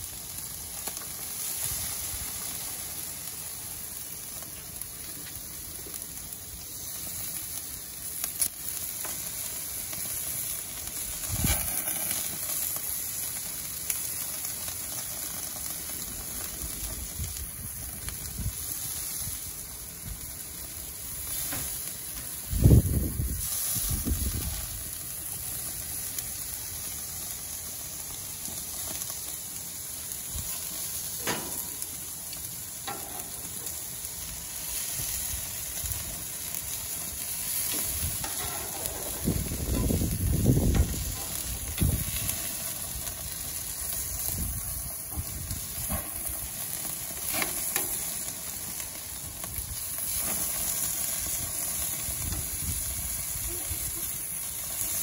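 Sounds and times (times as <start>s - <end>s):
skewers sizzling on grill: 0.0s - 55.0s.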